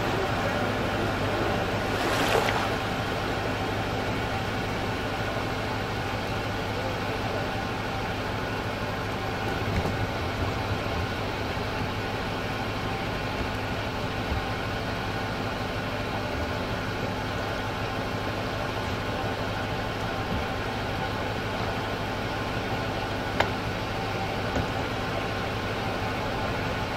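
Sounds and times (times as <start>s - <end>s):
outboard motor idling: 0.0s - 26.9s.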